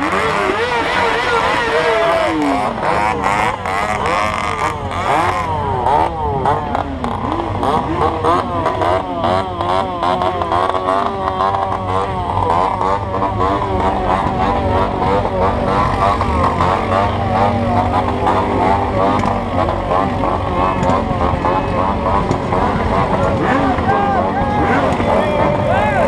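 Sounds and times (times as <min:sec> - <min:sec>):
low engine rumble: 0:00.0 - 0:26.0
motorcycle engines revving: 0:00.0 - 0:26.0.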